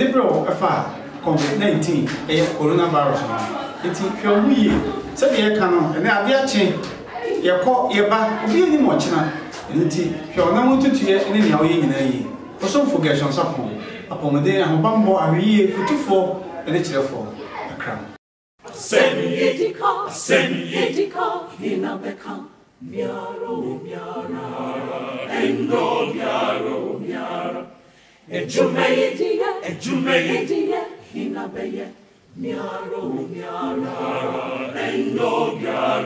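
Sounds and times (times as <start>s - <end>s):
group singing unaccompanied: 0.0s - 17.9s, 18.6s - 36.0s.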